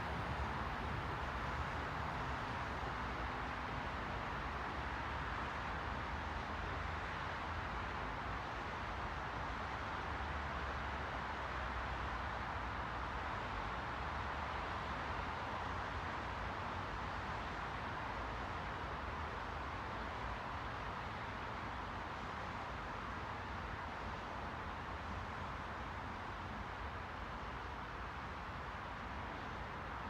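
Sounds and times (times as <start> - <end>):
white noise hiss: 0.0 - 30.0.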